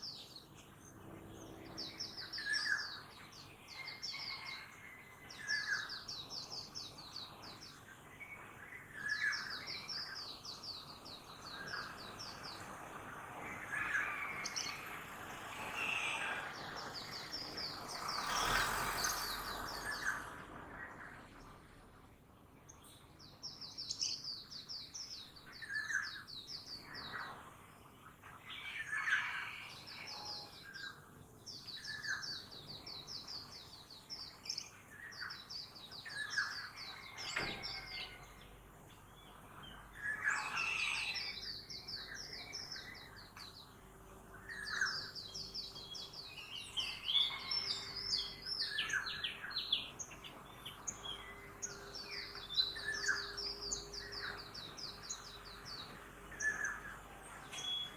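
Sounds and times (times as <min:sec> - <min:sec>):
birds singing: 0:00.0 - 0:21.8, 0:22.4 - 0:57.9.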